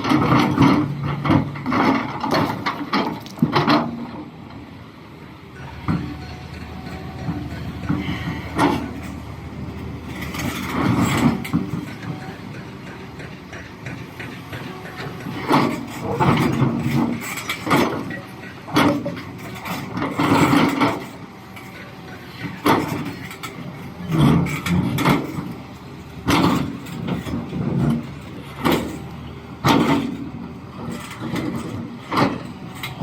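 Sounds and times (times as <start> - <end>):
rock clunking and scraping on steel: 0.0 - 4.6, 5.6 - 33.0
excavator diesel engine: 0.0 - 33.0.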